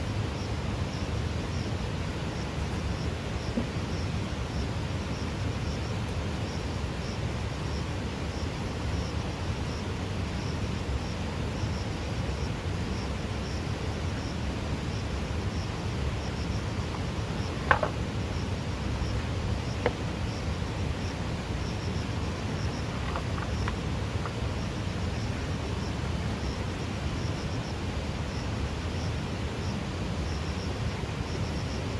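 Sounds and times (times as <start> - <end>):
faint insect chirps: 0.0 - 31.9.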